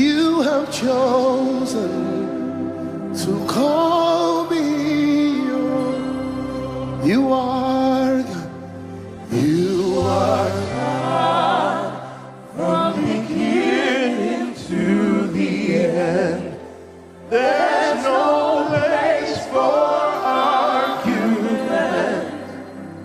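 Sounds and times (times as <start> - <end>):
gospel worship singing: 0.0 - 23.0.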